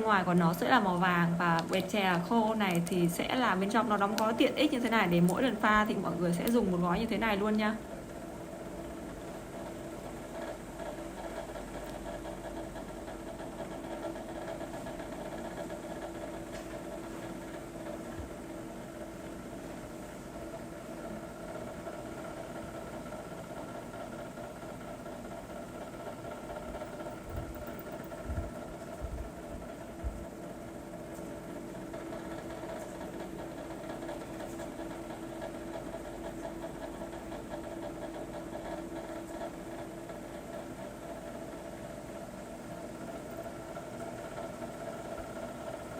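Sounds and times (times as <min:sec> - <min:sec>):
steady two-tone mechanical hum: 0:00.0 - 0:45.9.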